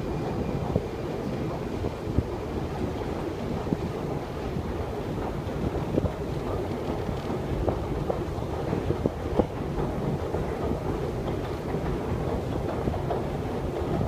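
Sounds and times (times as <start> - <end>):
escalator steps clicking: 0.0 - 14.0.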